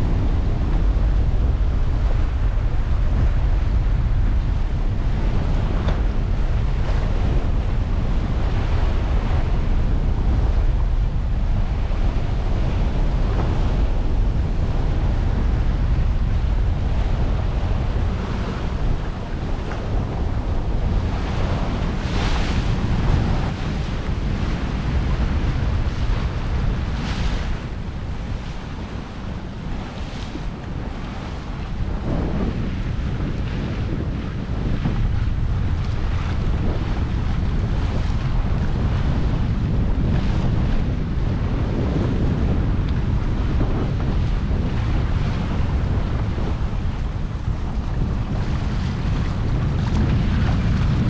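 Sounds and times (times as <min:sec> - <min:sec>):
deep steady rumble: 0:00.0 - 0:51.0
water rushing along hull: 0:00.0 - 0:51.0
wind buffeting microphone: 0:00.0 - 0:51.0.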